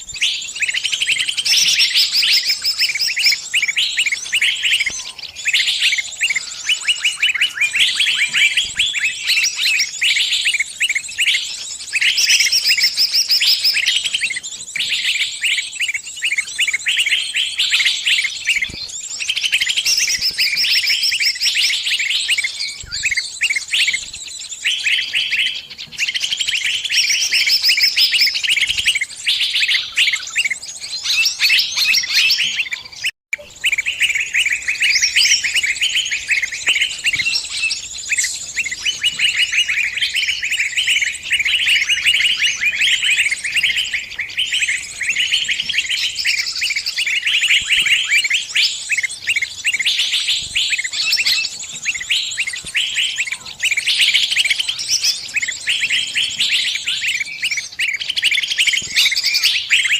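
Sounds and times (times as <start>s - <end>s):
small bird distress chirps: 0.0s - 59.9s.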